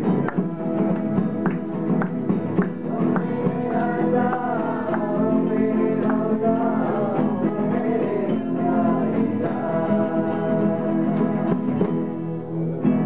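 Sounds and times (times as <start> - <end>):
group singing devotional song: 0.0 - 12.1
acoustic guitar strumming: 0.0 - 13.0.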